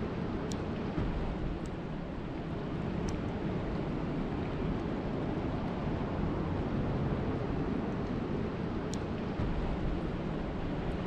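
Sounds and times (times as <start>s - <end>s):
rain falling on a lake: 0.0s - 11.0s.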